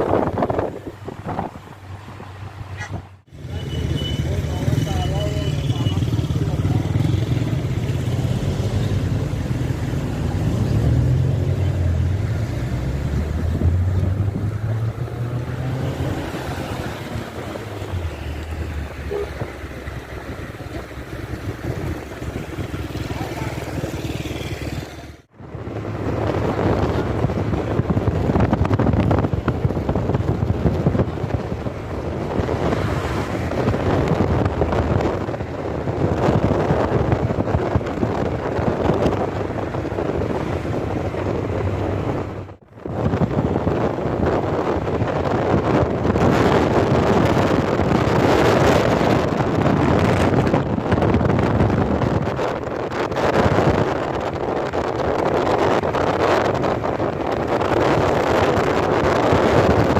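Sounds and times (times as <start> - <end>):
wind on microphone: 0.0 - 3.2, 4.0 - 59.9
road noise: 0.0 - 59.9
vehicle engine rumble: 0.0 - 59.9.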